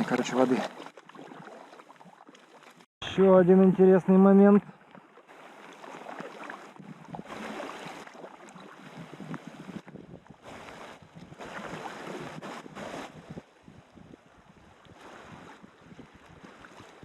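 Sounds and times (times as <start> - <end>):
water splashing around paddled raft: 0.0 - 3.2, 4.1 - 17.0.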